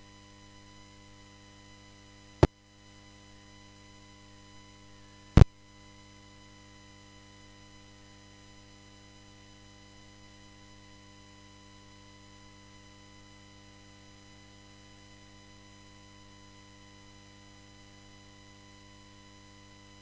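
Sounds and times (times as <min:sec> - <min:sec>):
faint mains hum: 0:00.0 - 0:20.0.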